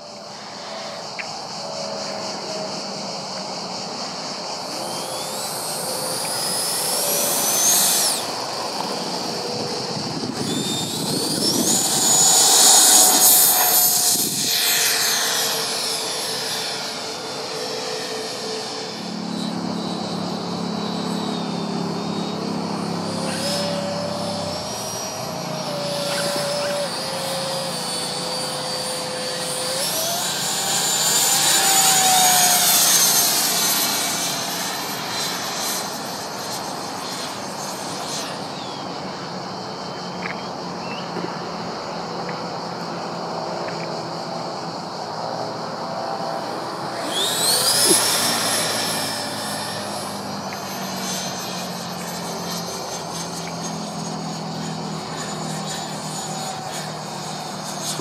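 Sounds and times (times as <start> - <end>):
model jet fan whine: 0.0 - 58.0.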